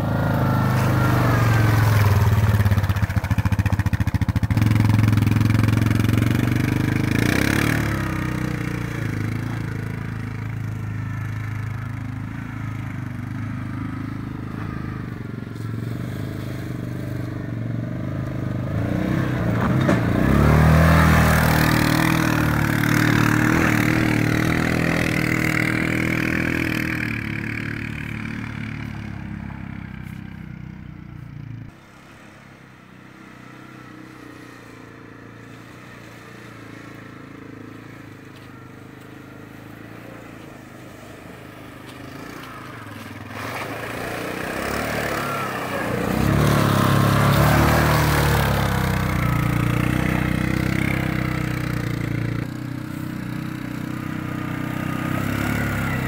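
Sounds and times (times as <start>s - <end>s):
atv engine passing: 0.0s - 56.0s.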